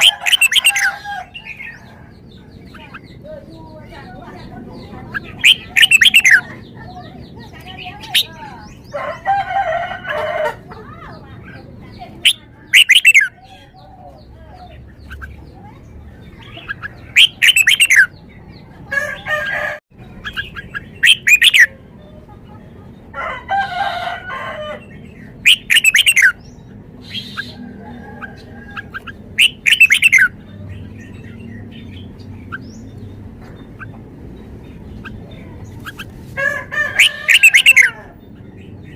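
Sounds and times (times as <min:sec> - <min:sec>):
low bird calls: 0:00.0 - 0:09.0, 0:11.5 - 0:22.9, 0:24.2 - 0:38.9
bird singing warbling phrases: 0:00.0 - 0:38.9.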